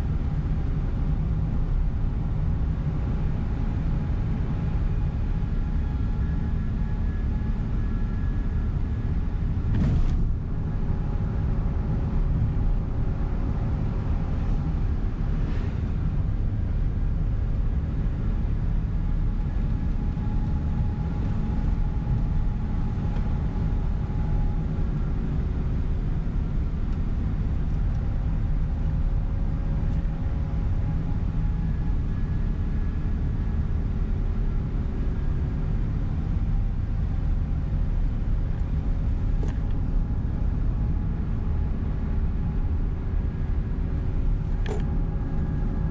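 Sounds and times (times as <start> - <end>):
coach engine and road rumble: 0.0 - 45.9.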